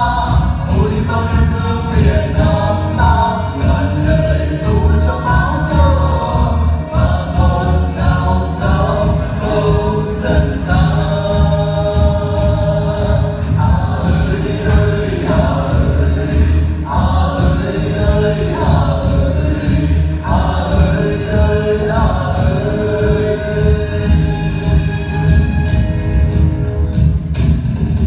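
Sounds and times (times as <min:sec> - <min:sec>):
group of voices singing: 0:00.0 - 0:25.6
bass line and steady beat: 0:00.0 - 0:28.0.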